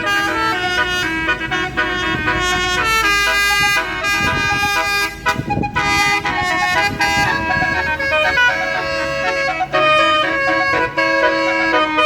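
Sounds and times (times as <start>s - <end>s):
musical air horn playing a tune: 0.0s - 12.0s.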